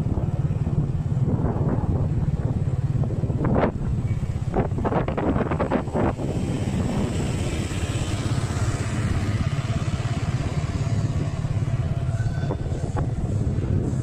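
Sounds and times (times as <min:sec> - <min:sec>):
motorbike engine running: 0:00.0 - 0:14.0
street noise: 0:00.0 - 0:14.0.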